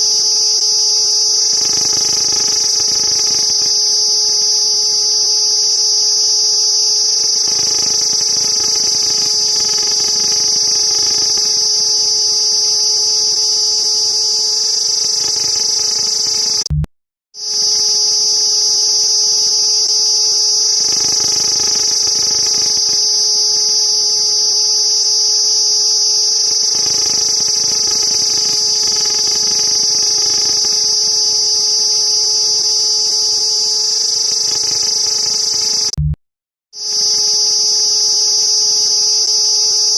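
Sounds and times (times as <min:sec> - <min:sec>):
cicada buzzing: 0:00.0 - 0:16.7, 0:17.4 - 0:36.0, 0:36.8 - 0:39.9.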